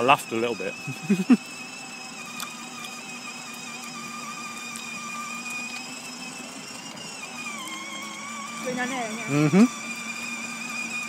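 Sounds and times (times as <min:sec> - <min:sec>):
toy electric motors whining: 0:00.0 - 0:11.0.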